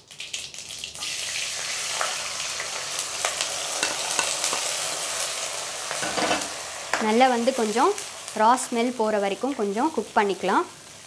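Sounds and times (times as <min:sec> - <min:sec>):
paste sizzling in hot oil: 0:00.1 - 0:11.0.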